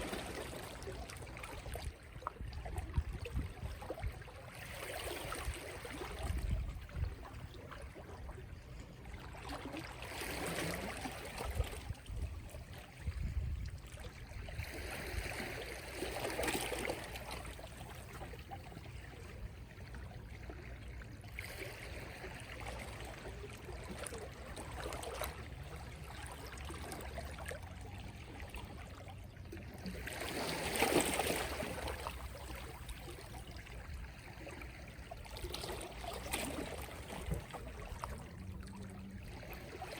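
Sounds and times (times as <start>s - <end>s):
gentle sea waves washing ashore: 0.0s - 39.9s.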